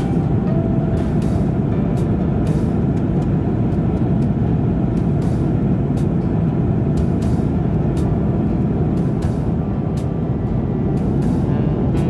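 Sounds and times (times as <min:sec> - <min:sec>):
jet airliner cabin drone: 0:00.0 - 0:12.0.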